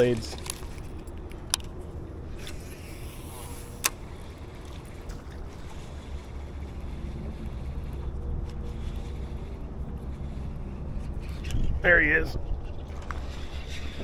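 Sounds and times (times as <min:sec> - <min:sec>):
river water: 0:00.0 - 0:14.0
wind: 0:00.0 - 0:14.0.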